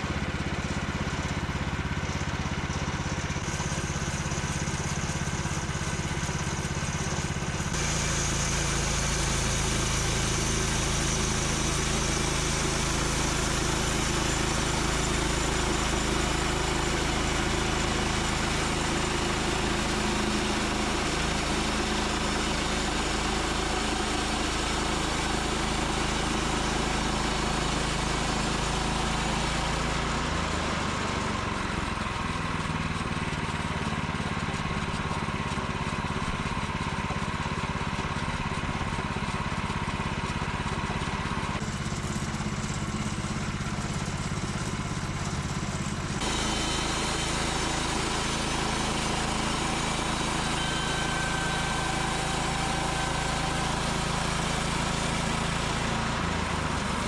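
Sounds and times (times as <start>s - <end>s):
chainsaw cutting through log: 0.0s - 39.2s, 41.3s - 57.0s.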